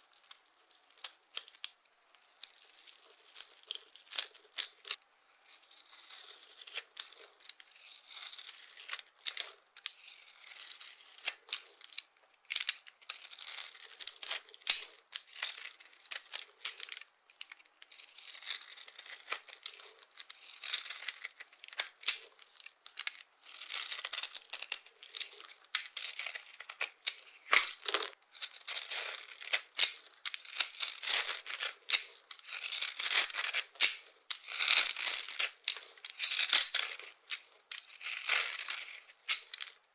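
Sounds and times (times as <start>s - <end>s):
dry soap crackling and crunching: 0.0s - 39.9s.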